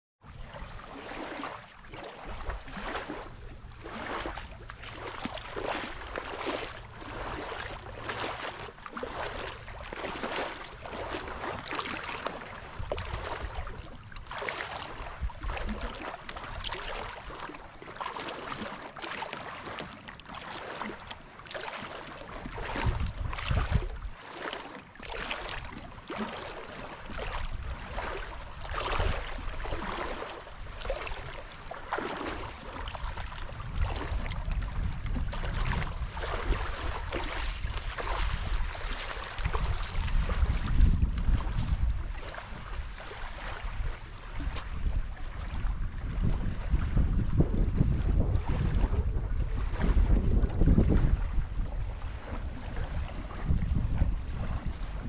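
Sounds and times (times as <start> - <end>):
wind rumble on microphone: 0.2 - 18.8, 22.2 - 24.2, 25.0 - 55.0
small waves lapping on sand: 0.3 - 55.0.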